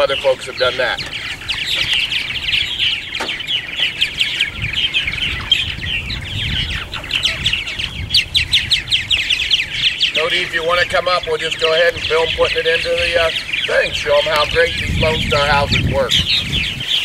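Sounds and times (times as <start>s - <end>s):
martins chirping and chattering: 0.0s - 17.0s.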